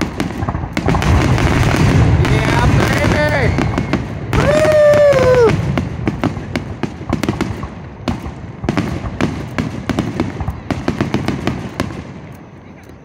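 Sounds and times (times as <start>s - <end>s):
fireworks bangs: 0.0s - 13.0s
fireworks crackling pops: 0.0s - 13.0s.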